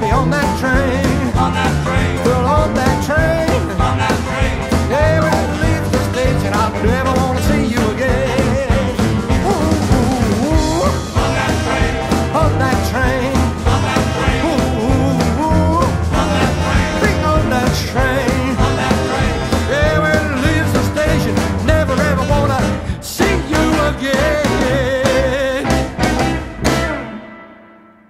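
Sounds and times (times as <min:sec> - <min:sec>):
upright bass: 0:00.0 - 0:27.2
drums: 0:00.0 - 0:27.9
electric guitar: 0:00.0 - 0:28.0
rock and roll band playing live: 0:00.0 - 0:28.0.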